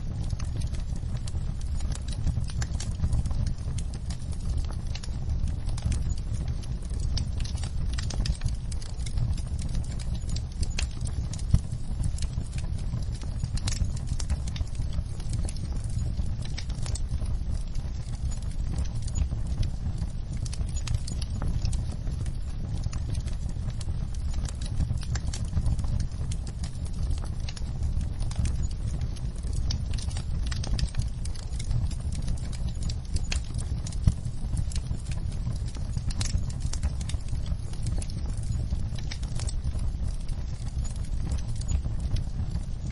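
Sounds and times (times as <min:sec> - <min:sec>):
low rumble of burning logs: 0:00.0 - 0:42.9
wood fire crackling: 0:00.0 - 0:42.9.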